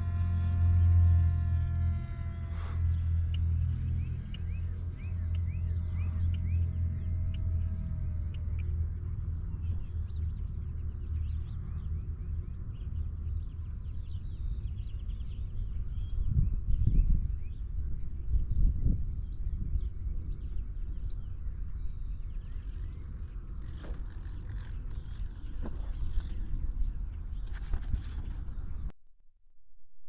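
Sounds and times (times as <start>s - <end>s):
thin high motor whine: 0.0s - 19.0s, 20.1s - 28.9s
wind buffeting microphone: 2.2s - 28.9s
small birds chirping: 2.6s - 28.9s.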